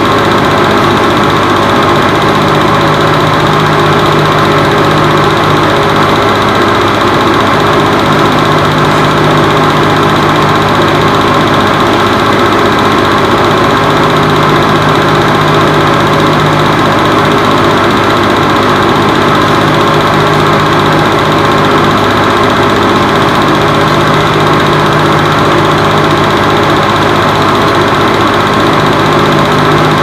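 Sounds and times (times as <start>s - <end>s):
film projector whirring: 0.0s - 30.0s.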